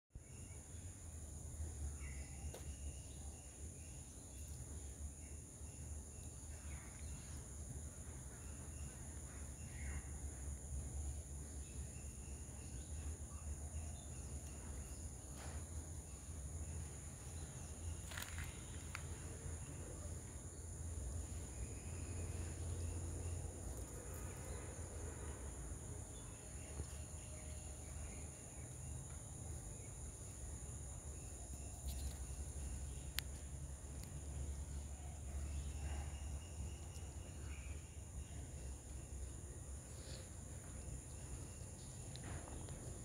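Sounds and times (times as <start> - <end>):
high-pitched insect chorus: 0.2 - 43.0.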